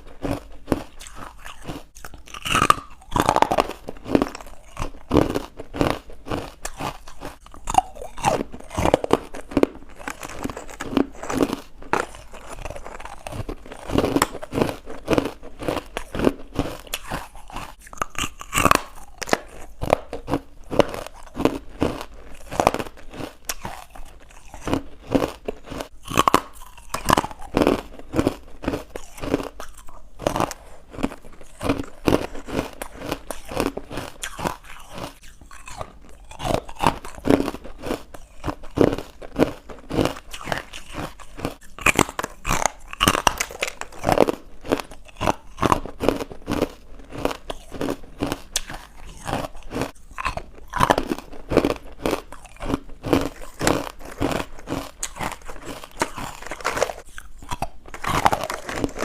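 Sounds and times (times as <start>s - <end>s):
person chewing crunchy candy: 0.0s - 59.0s.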